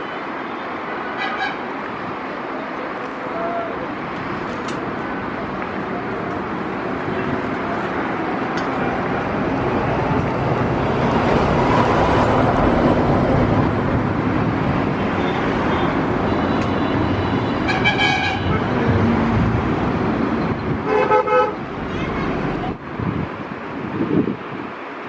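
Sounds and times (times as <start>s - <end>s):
highway traffic rush: 0.0s - 25.0s.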